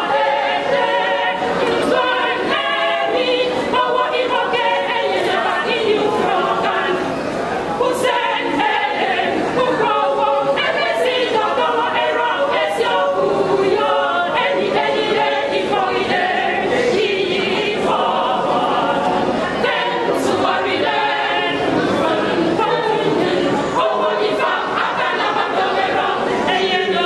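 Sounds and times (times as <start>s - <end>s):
mixed choir singing unaccompanied: 0.0s - 27.0s.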